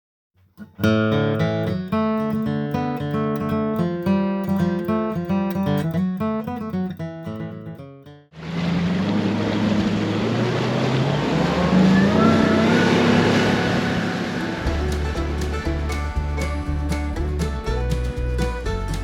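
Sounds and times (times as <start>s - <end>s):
acoustic guitar picking and strumming: 0.6s - 19.0s.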